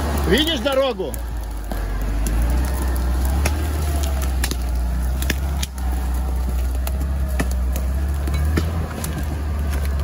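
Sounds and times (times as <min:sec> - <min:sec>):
off-road vehicle engine idling: 0:00.0 - 0:10.0.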